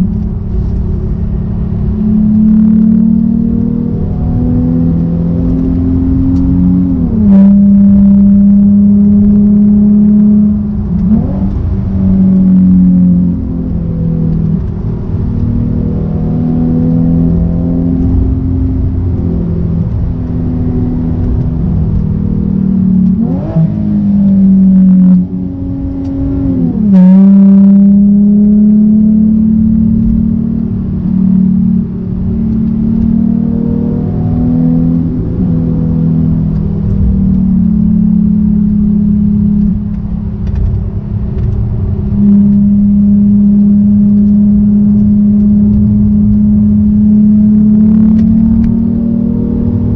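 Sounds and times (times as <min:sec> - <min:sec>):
car engine revving inside cabin: 0:00.0 - 0:49.9.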